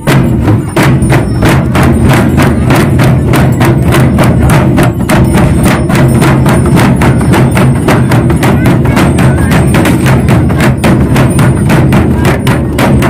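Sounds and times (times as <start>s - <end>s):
fast drumming: 0.0s - 13.0s.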